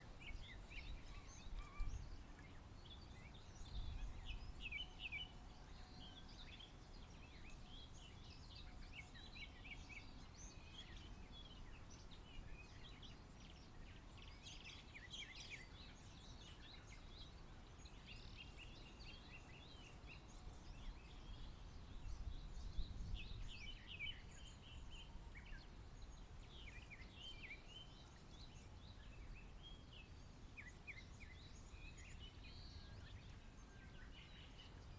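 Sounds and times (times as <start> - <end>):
low background hiss: 0.0 - 34.9
small birds singing and chirping: 0.0 - 34.9.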